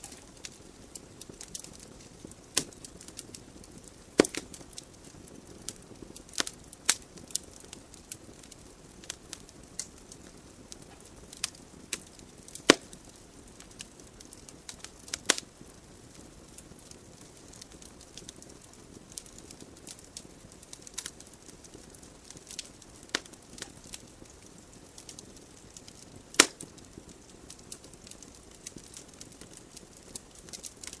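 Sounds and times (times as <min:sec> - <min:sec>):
soft fire hiss: 0:00.0 - 0:31.0
wood fire crackling and popping: 0:00.0 - 0:31.0.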